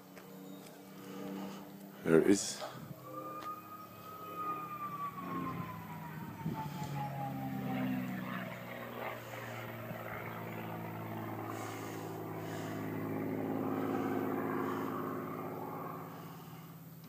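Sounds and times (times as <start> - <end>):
aircraft engine droning overhead: 0.0 - 17.0.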